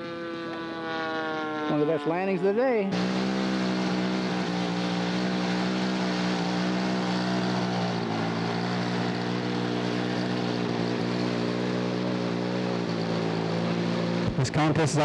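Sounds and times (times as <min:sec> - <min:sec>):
model airplane engine idling: 0:00.0 - 0:15.0.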